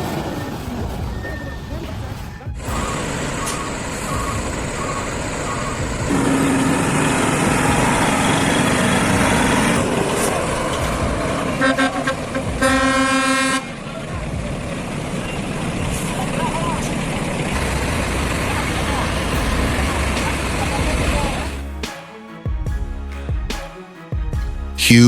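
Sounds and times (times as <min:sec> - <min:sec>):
heavy vehicle engine: 0:00.0 - 0:22.0
horn blast: 0:00.0 - 0:25.0
horn toots: 0:00.0 - 0:25.0.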